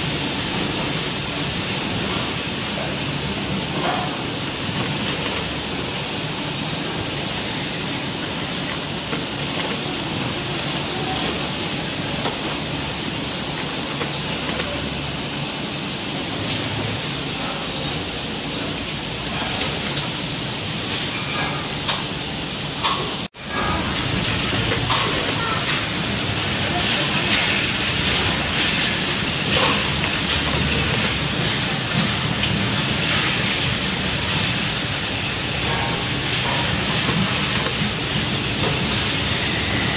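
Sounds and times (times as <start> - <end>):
workshop machinery din: 0.0 - 39.9.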